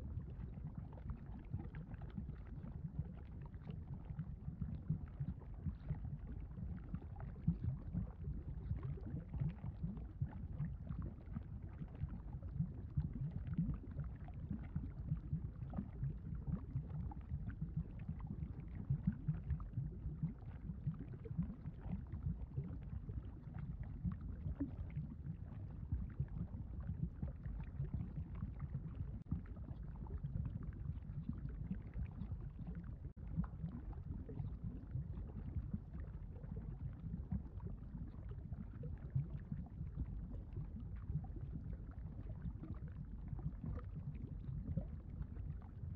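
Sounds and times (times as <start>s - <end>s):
low bubbling rumble: 0.0s - 45.9s.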